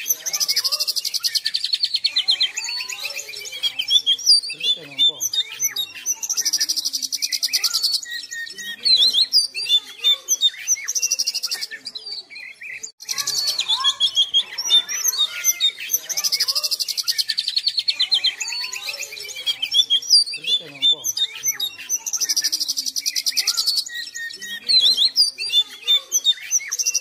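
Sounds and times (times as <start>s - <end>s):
bird singing with rattling trills: 0.0s - 27.0s.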